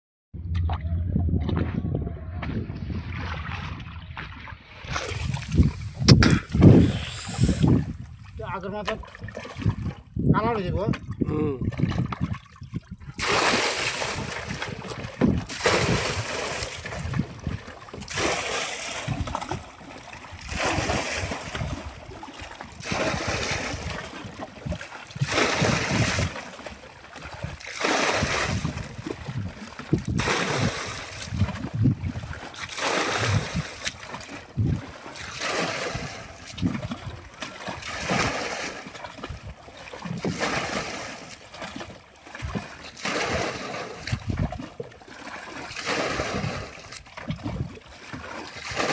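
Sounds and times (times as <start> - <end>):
water splashing in surges: 2.4 - 48.9.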